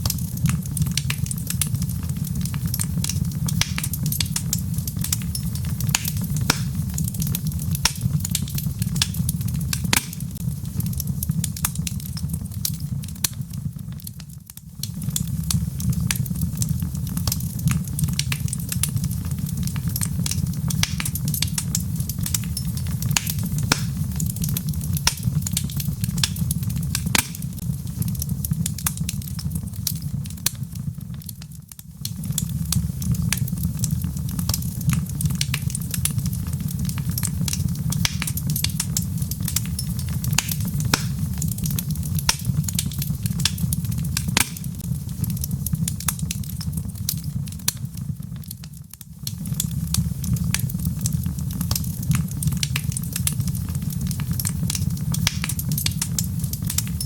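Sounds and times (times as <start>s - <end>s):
fire rumbling: 0.0s - 57.0s
logs crackling and popping: 0.0s - 57.0s.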